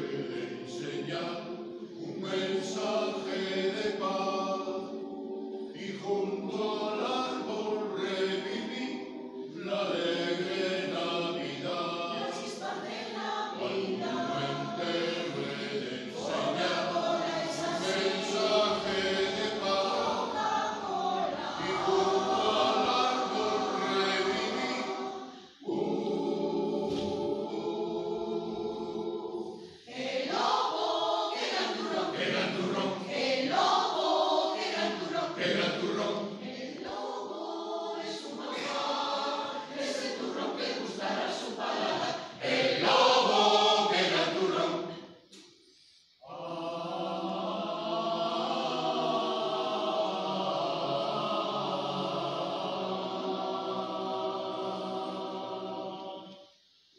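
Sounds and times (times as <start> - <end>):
mixed choir singing: 0.0 - 56.9.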